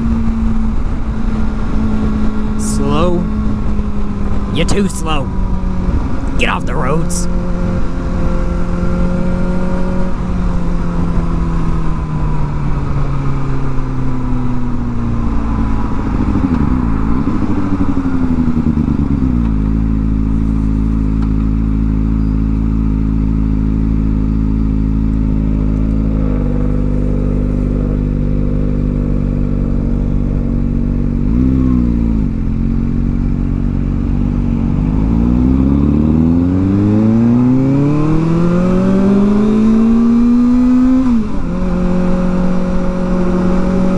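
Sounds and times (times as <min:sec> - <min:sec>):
motorcycle engine idling and revving: 0:00.0 - 0:02.6, 0:07.3 - 0:43.9.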